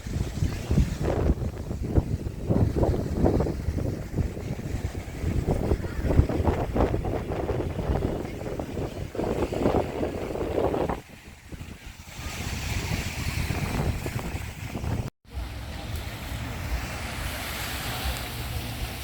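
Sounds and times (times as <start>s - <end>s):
sea surf washing on beach: 0.0s - 19.0s
wind rumbling on microphone: 0.0s - 19.0s.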